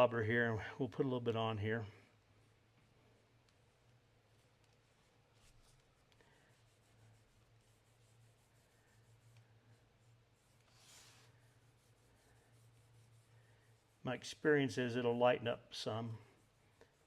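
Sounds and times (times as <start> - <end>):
wool dauber rubbing on leather: 0.0 - 15.1, 15.7 - 17.0.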